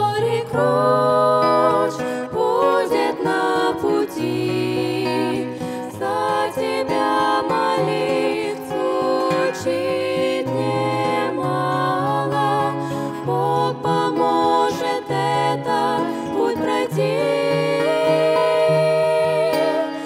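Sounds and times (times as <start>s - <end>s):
women singing in harmony: 0.0s - 20.0s.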